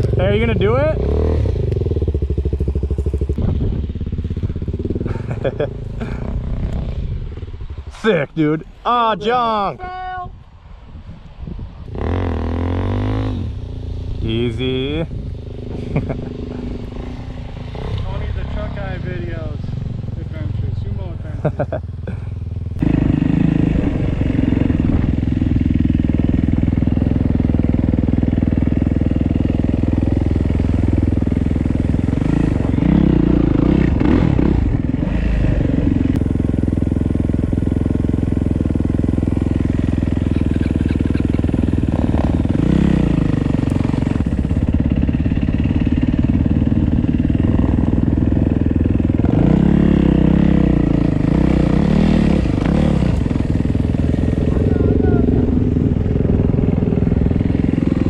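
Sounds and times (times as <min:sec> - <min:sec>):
motorcycle engine revving: 0:00.0 - 0:08.3, 0:11.9 - 0:58.0.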